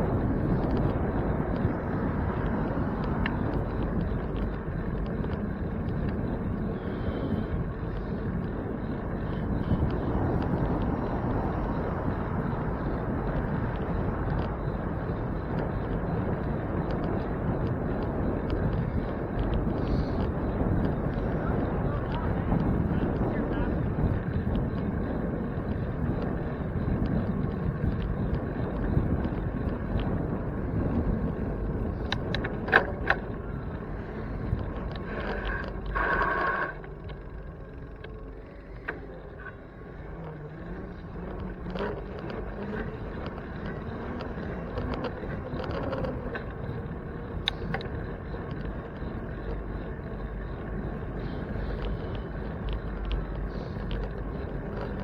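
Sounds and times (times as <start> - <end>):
bicycle clicks: 0.0 - 55.0
road rumble: 0.0 - 55.0
wind buffeting microphone: 0.0 - 55.0.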